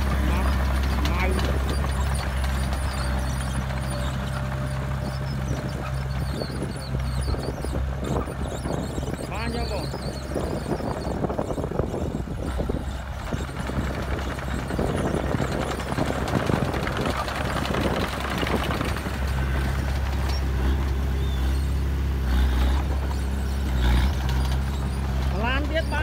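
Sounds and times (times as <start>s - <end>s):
bulldozer diesel engine running: 0.0s - 26.0s
rattling and clatter: 0.0s - 26.0s.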